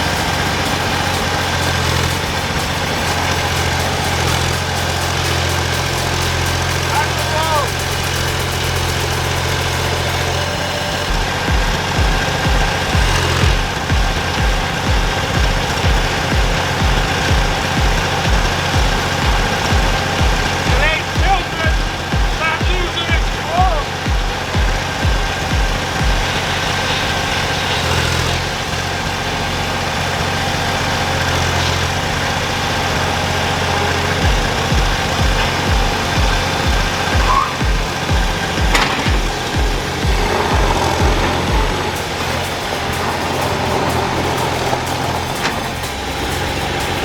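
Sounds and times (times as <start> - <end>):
steady thumping beat: 0.0 - 27.0, 33.6 - 47.0
diesel engine running: 0.0 - 47.0.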